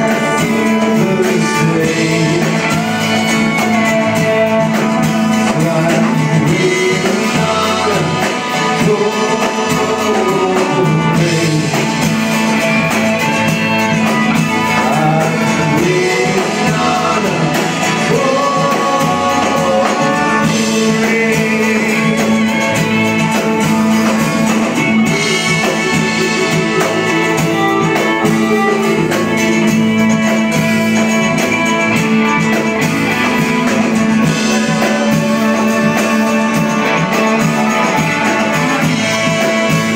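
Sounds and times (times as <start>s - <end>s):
drums: 0.0s - 39.9s
electric guitars: 0.0s - 39.9s
person singing: 0.0s - 39.9s
strummed acoustic guitar: 0.0s - 39.9s.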